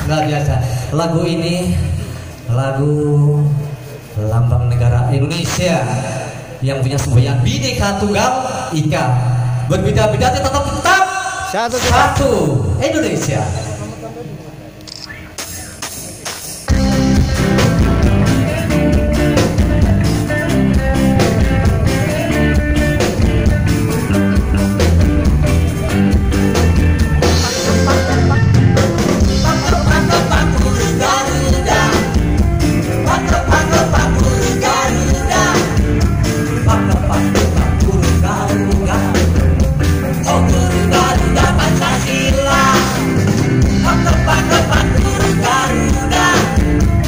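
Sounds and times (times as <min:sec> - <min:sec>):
live pop-rock band: 0:00.0 - 0:47.0.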